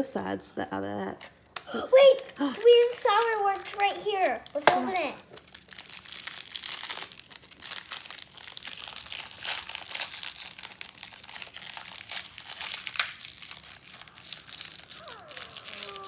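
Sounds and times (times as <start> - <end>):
plastic packaging crinkling: 2.4 - 16.0.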